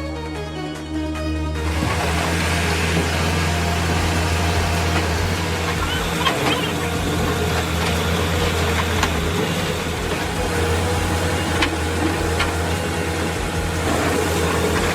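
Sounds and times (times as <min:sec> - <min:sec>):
heavy diesel engine running: 0:00.0 - 0:14.9.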